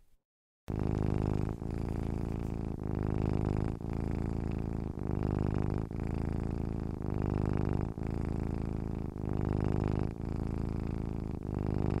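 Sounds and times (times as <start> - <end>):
cat purring: 0.7 - 12.0.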